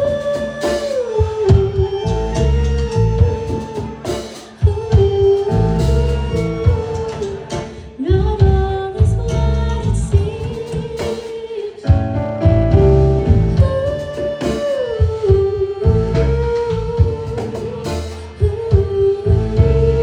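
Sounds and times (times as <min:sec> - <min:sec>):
live band playing: 0:00.0 - 0:20.0
person singing long notes: 0:00.0 - 0:20.0.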